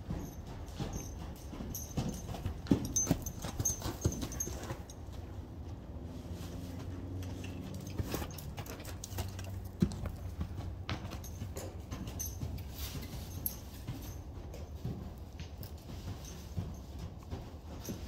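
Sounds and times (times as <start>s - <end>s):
horse hooves on sand: 0.0s - 18.0s.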